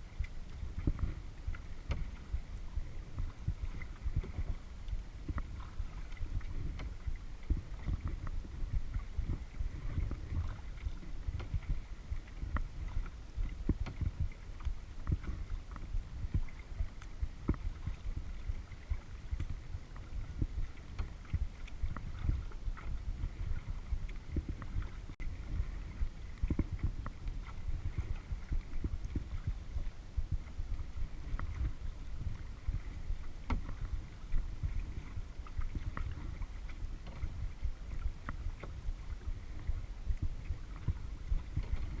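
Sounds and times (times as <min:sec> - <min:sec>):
low uneven rumble: 0:00.0 - 0:42.0
water lapping against kayak: 0:00.0 - 0:42.0
water drips and knocks: 0:00.2 - 0:30.5, 0:31.2 - 0:34.0, 0:34.6 - 0:42.0.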